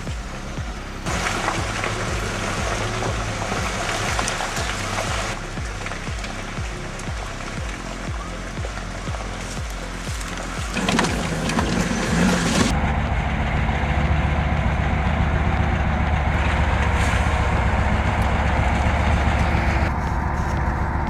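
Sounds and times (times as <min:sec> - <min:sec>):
noisy rush of sound: 0:00.0 - 0:21.0
truck engine droning: 0:00.0 - 0:21.0.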